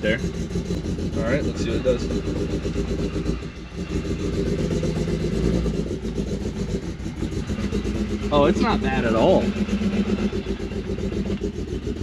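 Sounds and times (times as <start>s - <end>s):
car engine running in cabin: 0.0s - 12.0s.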